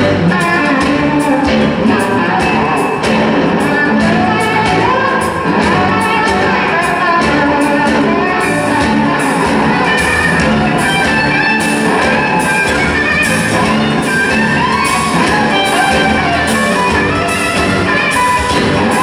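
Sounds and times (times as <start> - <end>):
blues band playing: 0.0 - 19.0
lead electric guitar: 0.0 - 19.0.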